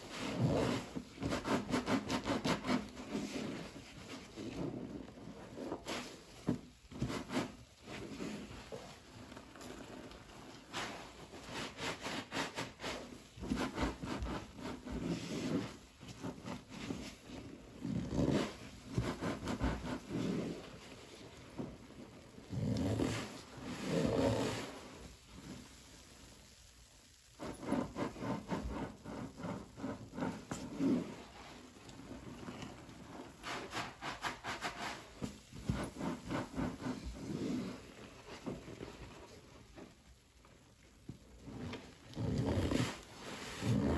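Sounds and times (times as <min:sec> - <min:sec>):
sponge squelching in suds: 0:00.0 - 0:26.6, 0:27.2 - 0:39.9, 0:41.3 - 0:43.9.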